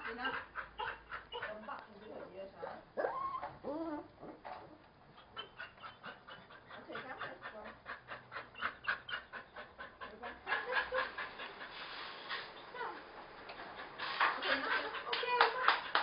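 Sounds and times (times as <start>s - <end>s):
dog panting: 0.0s - 2.9s, 3.7s - 16.0s.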